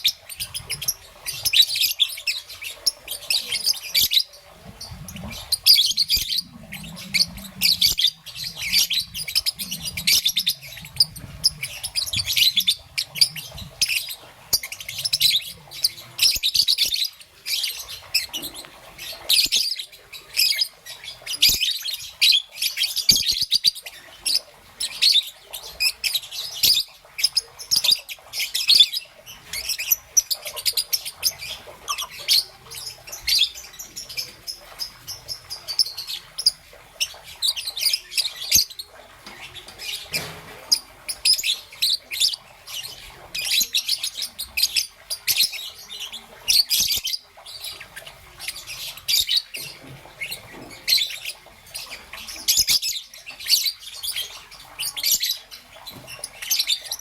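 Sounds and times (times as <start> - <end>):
lovebird chirping: 0.0 - 57.0.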